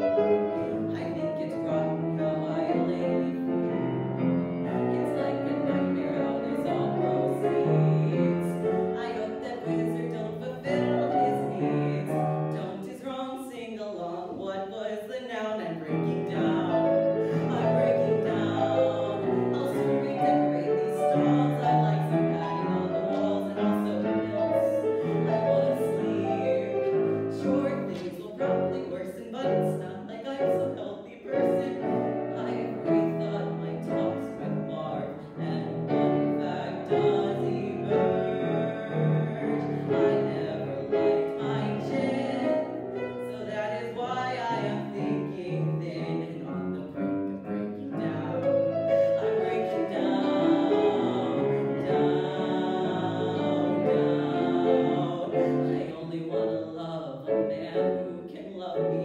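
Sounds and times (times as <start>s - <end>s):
grand piano accompaniment: 0.0s - 13.3s, 15.6s - 59.0s
person singing: 4.7s - 59.0s.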